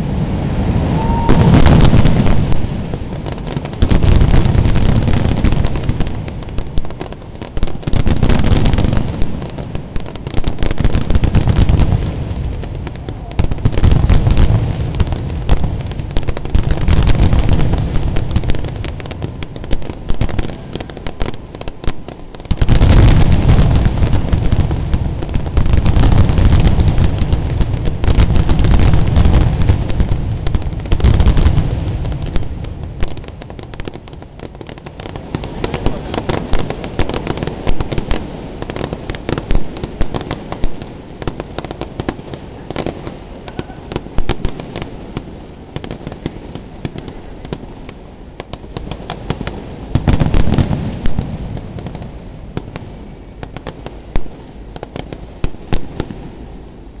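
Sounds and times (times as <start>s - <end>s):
firework booms: 0.0s - 57.0s
fireworks crackling and popping: 0.0s - 57.0s.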